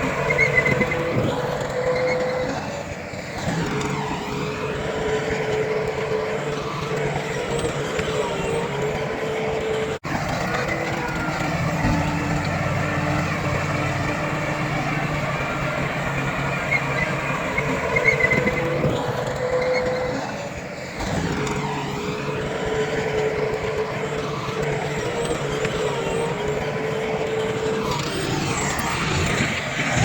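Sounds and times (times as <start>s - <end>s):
diesel engine drone: 0.0s - 30.0s
steady whine: 0.0s - 30.0s.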